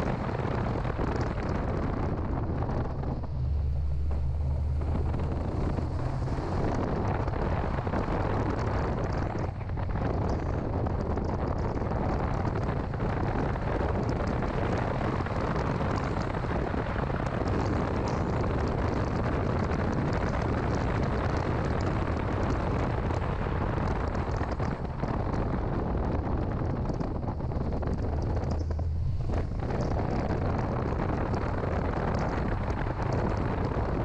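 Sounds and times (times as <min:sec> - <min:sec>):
car engine drone: 0:00.0 - 0:34.0
road and wind noise: 0:00.0 - 0:34.0.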